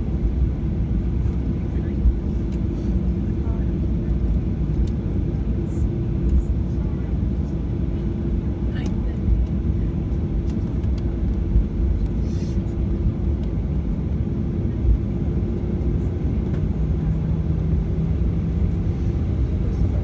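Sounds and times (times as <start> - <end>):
jet engines idling hum: 0.0 - 20.0.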